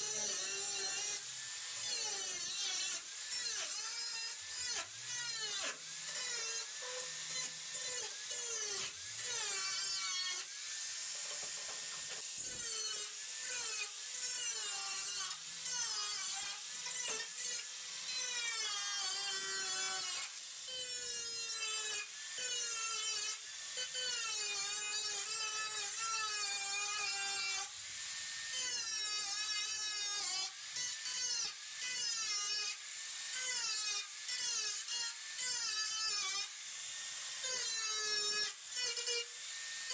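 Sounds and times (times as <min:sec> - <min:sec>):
power tool cutting steel: 0:00.0 - 0:39.9.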